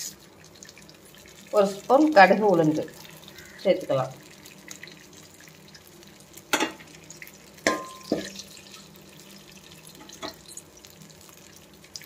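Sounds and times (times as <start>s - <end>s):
seeds sizzling in oil: 0.0s - 12.0s.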